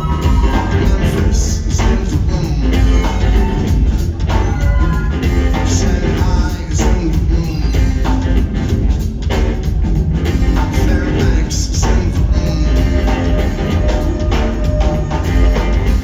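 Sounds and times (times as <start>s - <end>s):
heavy bass line: 0.0s - 16.0s
live rock band playing: 0.0s - 16.0s
steady drum beat: 0.0s - 16.0s.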